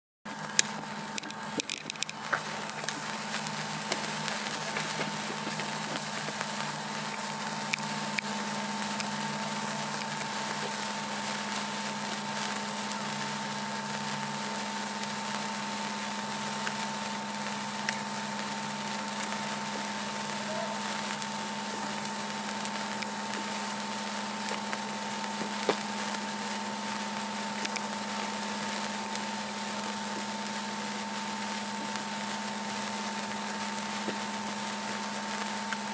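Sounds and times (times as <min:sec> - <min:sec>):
low hum: 0:00.3 - 0:32.1
sparklers fizzing and crackling: 0:00.3 - 0:35.9.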